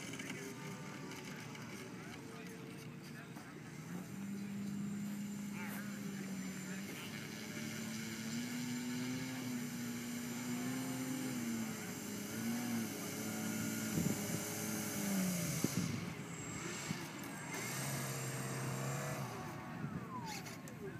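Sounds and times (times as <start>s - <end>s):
model airplane motor hum: 3.8s - 20.9s.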